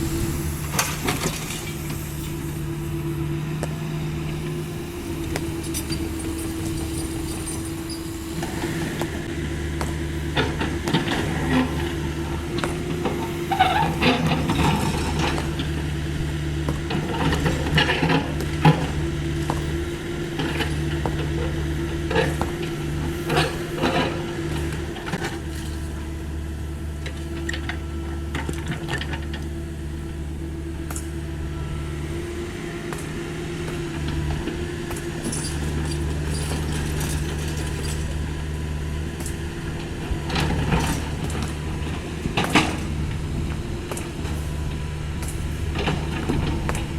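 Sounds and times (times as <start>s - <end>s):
excavator bucket scraping rubble: 0.0s - 26.2s, 33.8s - 46.9s
diesel engine running: 0.0s - 46.9s.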